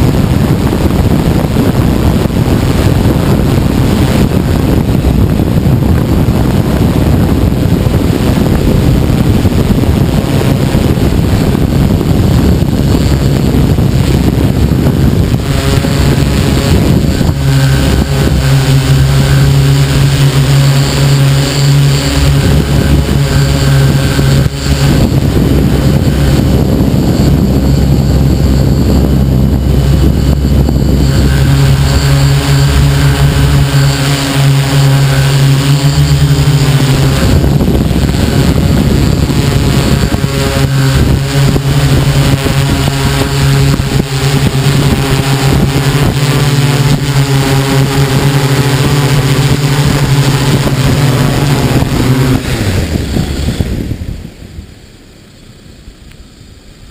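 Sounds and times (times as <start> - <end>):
drone motors and propellers: 0.0 - 56.9
wind noise on microphone: 0.0 - 56.9.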